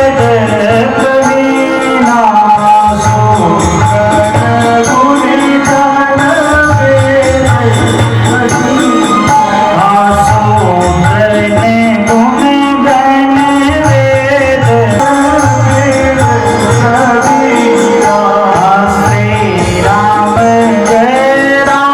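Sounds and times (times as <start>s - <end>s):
person singing: 0.0s - 21.9s
hand drum beat: 2.5s - 21.9s.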